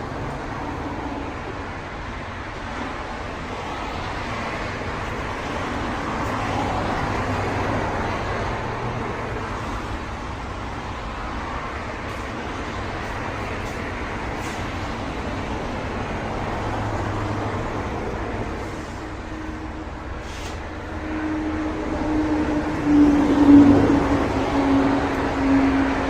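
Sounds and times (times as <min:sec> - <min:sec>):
motor vehicle engine rumble: 0:00.0 - 0:26.0
road noise: 0:00.0 - 0:26.0.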